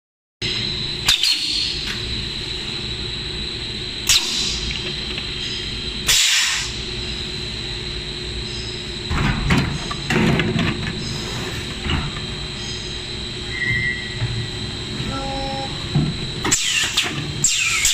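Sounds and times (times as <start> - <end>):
machine hum with high whine: 0.4 - 17.9.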